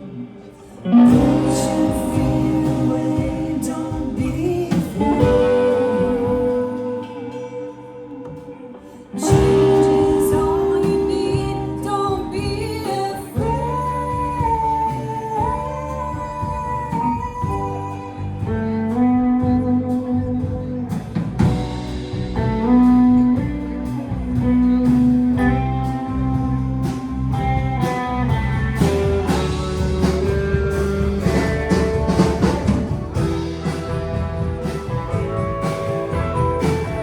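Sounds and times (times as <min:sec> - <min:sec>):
bass: 0:00.0 - 0:37.0
electric lead guitar: 0:00.0 - 0:37.0
drums: 0:00.6 - 0:37.0.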